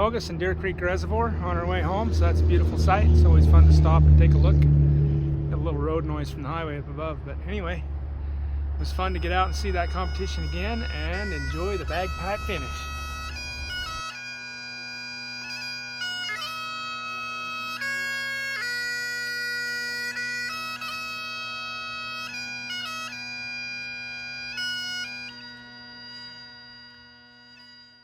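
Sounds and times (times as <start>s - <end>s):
bagpipes playing a tune: 0.0s - 28.0s.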